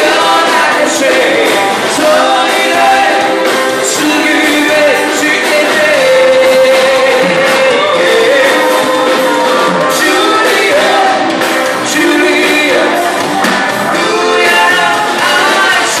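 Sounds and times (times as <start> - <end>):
live rock band playing: 0.0 - 16.0
man singing lead vocals: 0.0 - 16.0.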